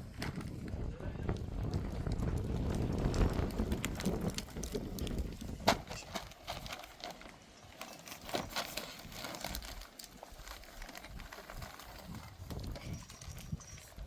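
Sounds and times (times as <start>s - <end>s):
rustling and crackling: 0.0s - 14.0s.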